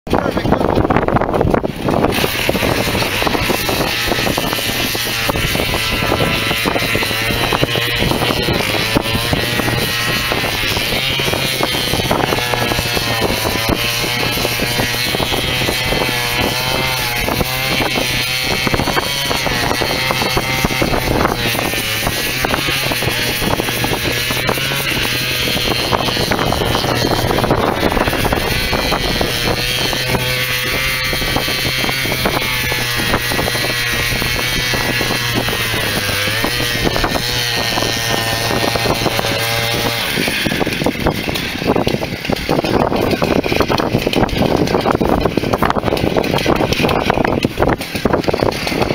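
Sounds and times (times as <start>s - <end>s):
low hum: 0.1s - 48.9s
small gasoline engine running: 0.1s - 48.9s.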